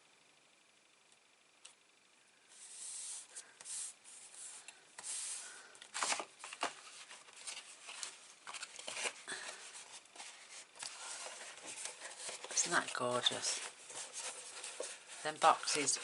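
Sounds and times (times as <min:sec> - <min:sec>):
paper rustling and sliding: 0:02.5 - 0:16.0.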